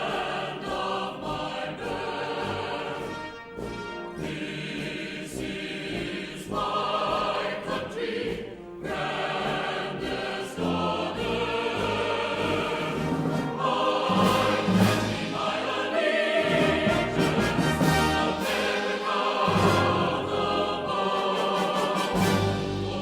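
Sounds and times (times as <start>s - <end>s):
choir singing held notes: 0.0s - 23.0s
orchestral accompaniment: 0.0s - 23.0s.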